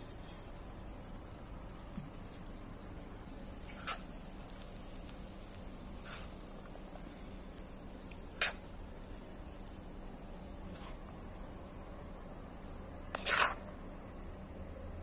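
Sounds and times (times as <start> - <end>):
low background hiss: 0.0 - 15.0.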